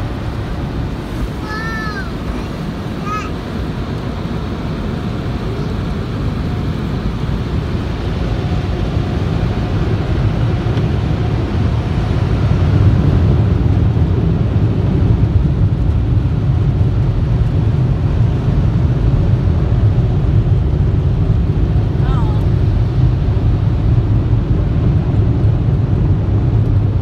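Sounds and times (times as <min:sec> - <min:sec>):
car wash rumble: 0:00.0 - 0:27.0.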